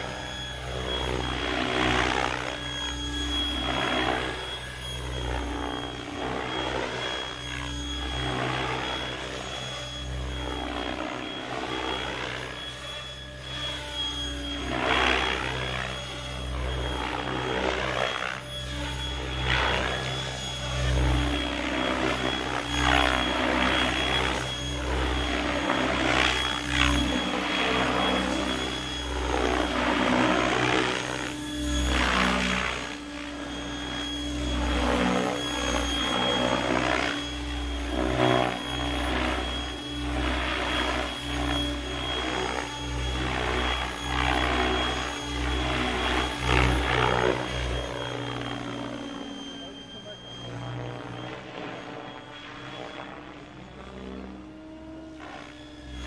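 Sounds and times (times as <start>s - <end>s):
high-pitched motor whine: 0.0s - 56.0s.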